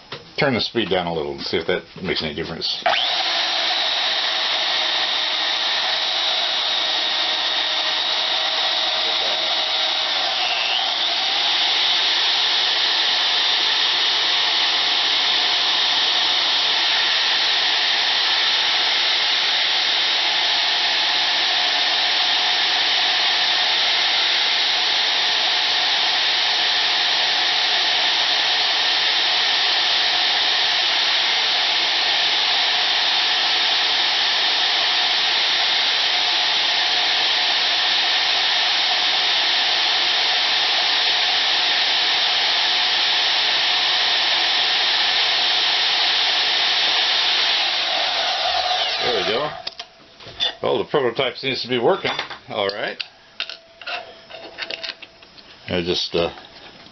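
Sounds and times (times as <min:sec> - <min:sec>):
bandsaw running with high whine: 0:02.7 - 0:49.8.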